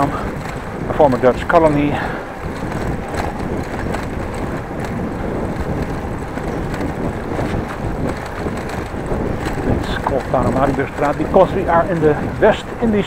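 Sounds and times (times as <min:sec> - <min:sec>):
bike tyres rolling over bricks: 0:00.0 - 0:13.0
wind rushing on microphone: 0:00.0 - 0:13.0.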